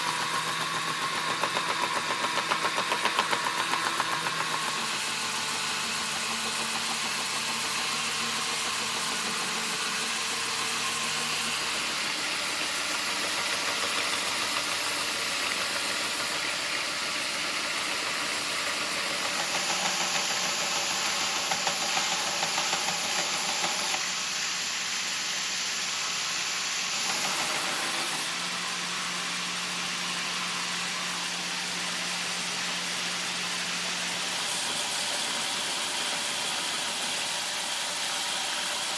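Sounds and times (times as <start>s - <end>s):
power tool motor whirring: 0.0s - 38.9s.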